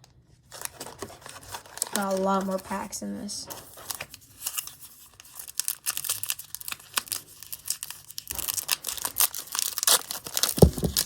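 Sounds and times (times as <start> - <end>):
foil wrapper crinkling and tearing: 0.0 - 2.8, 3.6 - 11.0.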